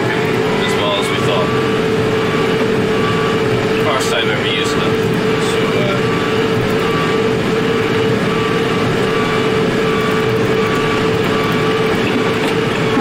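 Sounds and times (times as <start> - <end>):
constant whine: 0.0 - 13.0
tractor engine running: 0.0 - 13.0.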